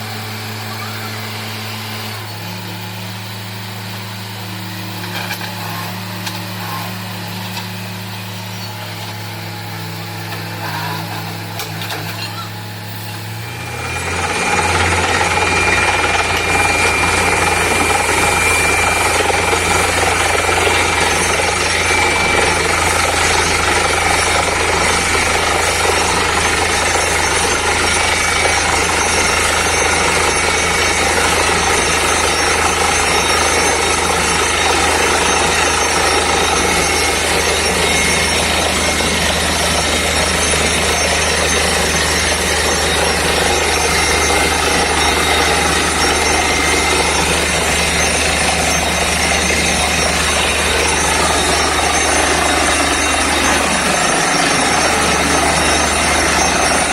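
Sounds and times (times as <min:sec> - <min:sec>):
compressor air and drill rushing: 0:00.0 - 0:56.9
diesel engine running: 0:00.0 - 0:56.9.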